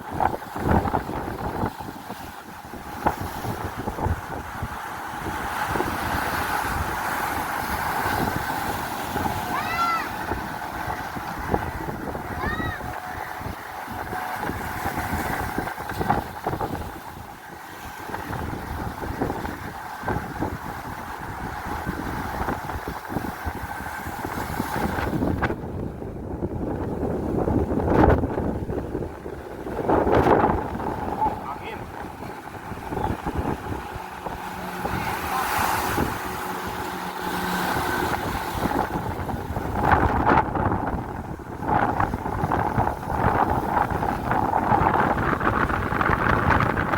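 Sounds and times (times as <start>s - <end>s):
boat engine running: 0.0s - 46.9s
wind buffeting microphone: 0.0s - 46.9s.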